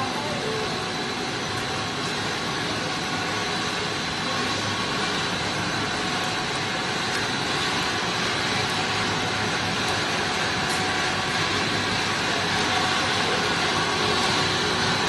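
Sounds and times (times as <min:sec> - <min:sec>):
extrusion machine running: 0:00.0 - 0:15.0.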